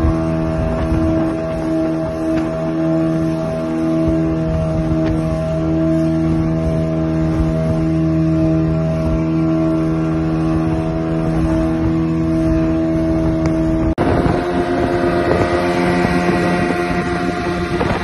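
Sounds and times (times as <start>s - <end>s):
outboard motors droning: 0.0s - 18.0s
water rushing and splashing: 0.0s - 18.0s
wind on microphone: 0.0s - 18.0s.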